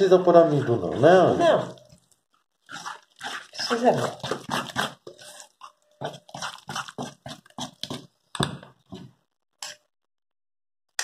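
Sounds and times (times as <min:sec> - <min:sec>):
batter squelching in a metal bowl: 0:00.0 - 0:09.1.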